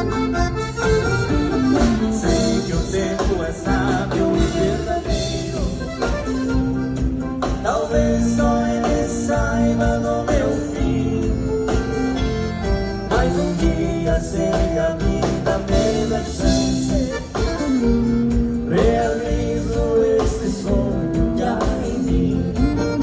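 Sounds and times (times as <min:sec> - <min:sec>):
band playing a romantic song: 0:00.0 - 0:23.0
guitar: 0:00.0 - 0:23.0
sliding melody line: 0:00.0 - 0:23.0
steady beat: 0:00.0 - 0:23.0.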